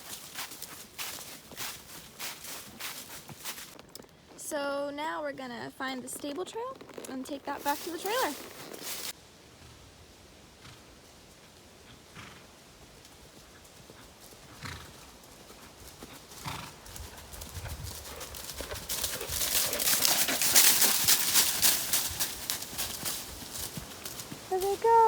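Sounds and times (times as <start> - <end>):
pony hoofbeats: 0.0 - 4.5, 5.1 - 9.8, 10.6 - 25.0.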